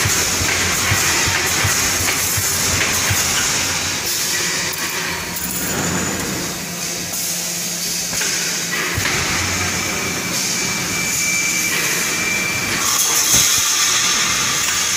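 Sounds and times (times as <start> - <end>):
welding machine clatter: 0.0 - 14.9.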